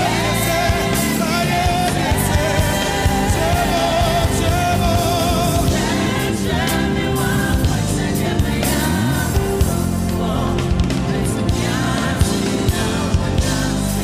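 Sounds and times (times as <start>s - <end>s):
band with drums: 0.0s - 14.0s
person singing gospel: 0.0s - 14.0s.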